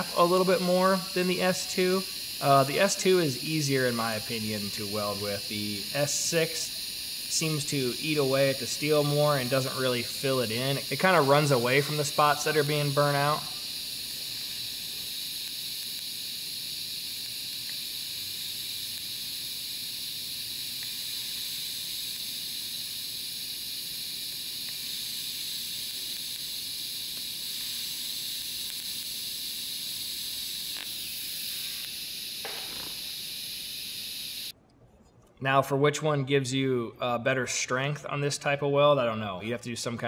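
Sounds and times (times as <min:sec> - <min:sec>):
welding arc hissing: 0:00.0 - 0:34.6.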